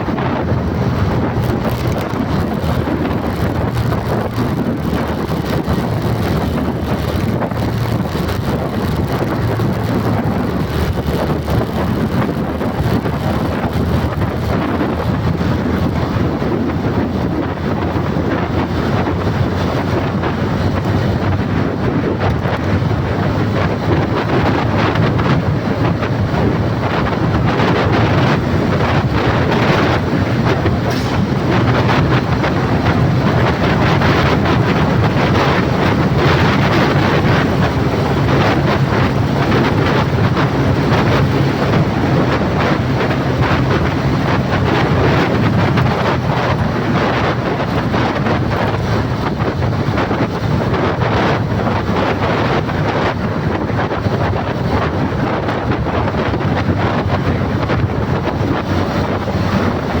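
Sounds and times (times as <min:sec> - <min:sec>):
vehicle engine running: 0:00.0 - 1:00.0
wind buffeting microphone: 0:00.0 - 1:00.0.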